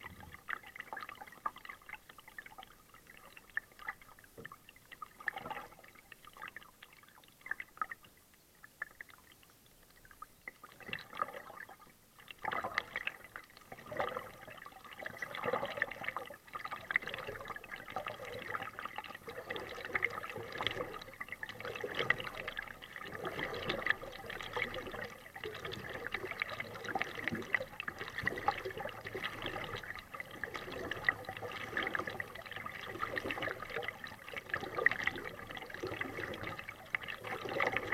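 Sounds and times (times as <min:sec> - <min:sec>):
water trickling around kayak: 0:00.0 - 0:37.9.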